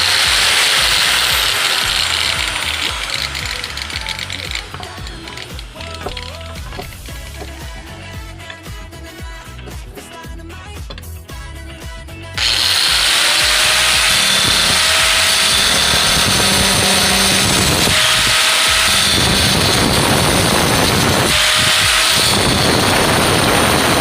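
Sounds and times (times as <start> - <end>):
angle grinder whining: 0.0 - 7.6, 12.4 - 24.0
background music: 0.0 - 20.0.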